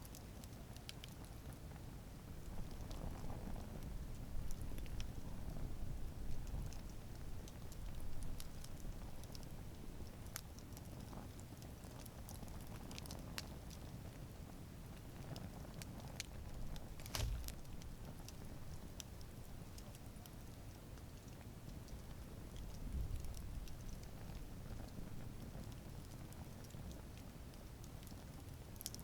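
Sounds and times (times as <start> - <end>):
campfire crackling and popping: 0.0 - 29.0
low rumble of flame: 0.0 - 29.0.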